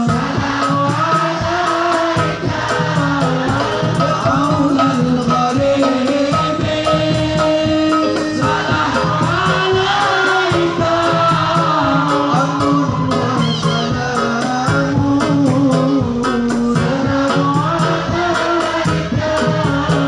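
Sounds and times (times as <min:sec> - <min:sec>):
devotional song by singer and group: 0:00.0 - 0:20.0
steady percussion beat: 0:00.0 - 0:20.0.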